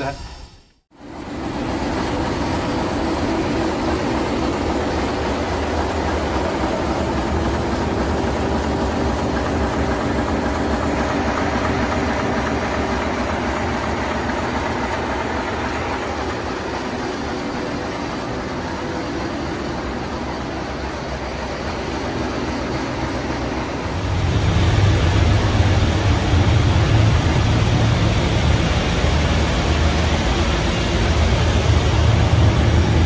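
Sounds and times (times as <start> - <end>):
diesel engine running: 1.0 - 33.0.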